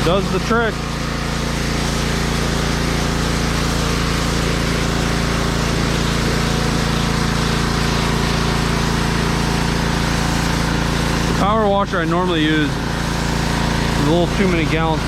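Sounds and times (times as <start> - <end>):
pressure washer motor hum: 0.0 - 15.0
water jet hissing on concrete: 0.0 - 15.0.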